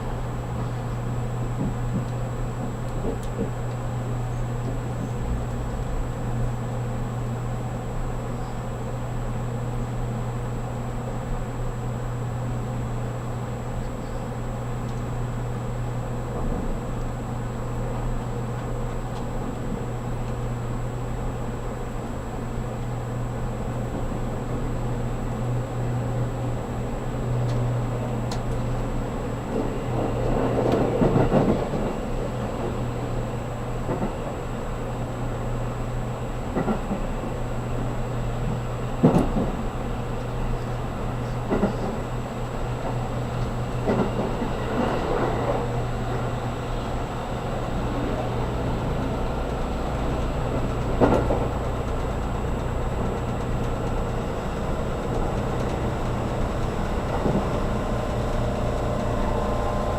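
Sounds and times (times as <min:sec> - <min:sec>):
train cabin rumble and hum: 0:00.0 - 0:59.9.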